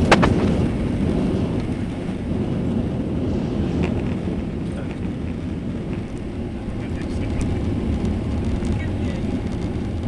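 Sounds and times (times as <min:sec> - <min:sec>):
jet engines rumbling: 0:00.0 - 0:10.0
rushing air: 0:00.0 - 0:10.0.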